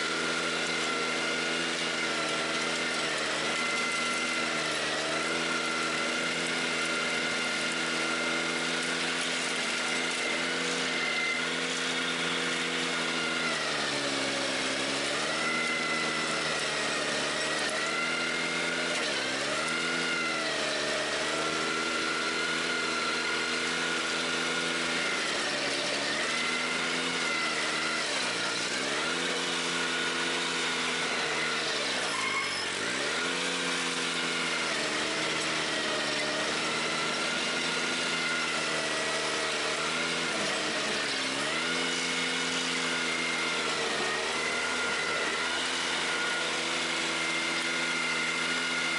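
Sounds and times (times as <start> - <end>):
stump grinder engine running: 0.0 - 48.9.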